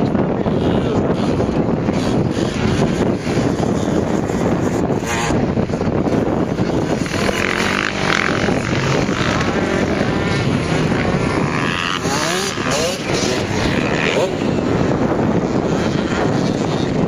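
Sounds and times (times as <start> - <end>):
motocross bike engines running: 0.0 - 17.0.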